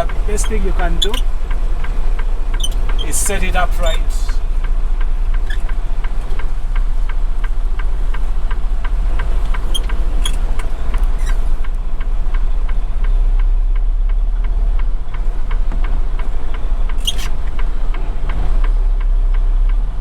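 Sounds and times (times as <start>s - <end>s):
diesel truck engine rumbling: 0.0s - 20.0s
engine ticking: 0.0s - 20.0s.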